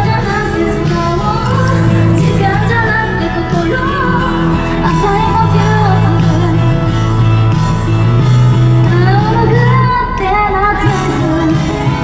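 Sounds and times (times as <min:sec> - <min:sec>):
woman singing pop song: 0:00.0 - 0:07.3, 0:08.8 - 0:12.0.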